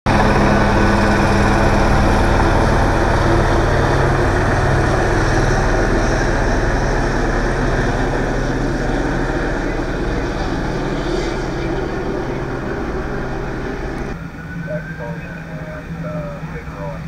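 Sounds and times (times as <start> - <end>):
engine drone: 0.1 - 17.0
low hum: 0.1 - 17.0.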